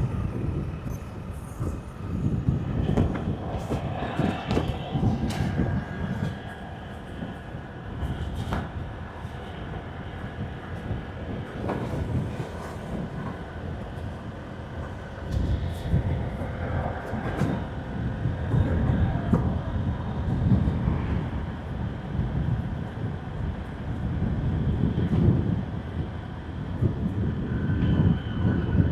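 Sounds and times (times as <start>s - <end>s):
wind rumble on microphone: 0.0s - 28.9s.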